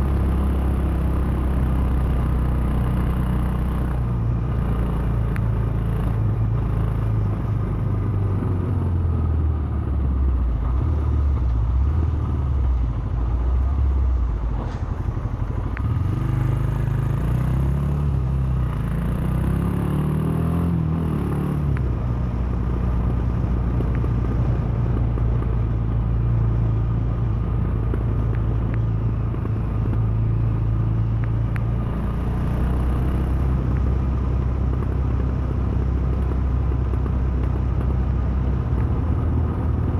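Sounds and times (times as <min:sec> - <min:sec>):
motorcycle engine running: 0:00.0 - 0:14.4, 0:15.0 - 0:39.9.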